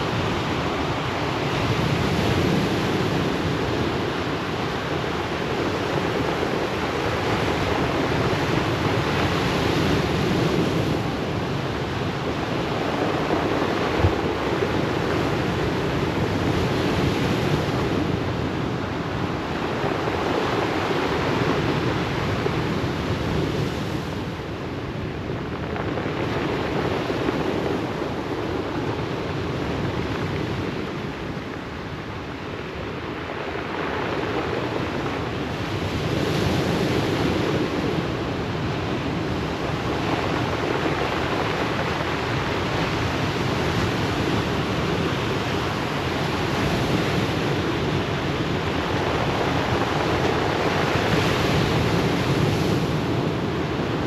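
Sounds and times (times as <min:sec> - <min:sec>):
surf washing up a pebble beach: 0:00.0 - 0:24.4, 0:25.3 - 0:54.0.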